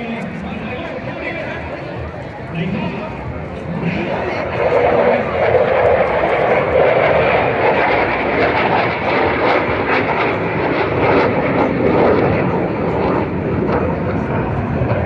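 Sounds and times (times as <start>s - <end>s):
fighter jet noise: 0.0s - 15.0s.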